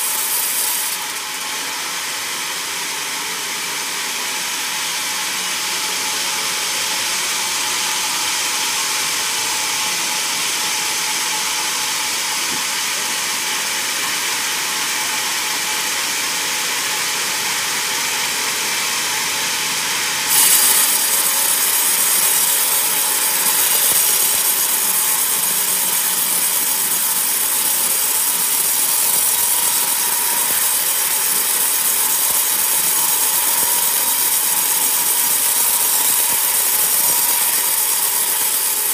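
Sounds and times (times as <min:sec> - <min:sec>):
band saw cutting through log: 0:00.0 - 0:38.9.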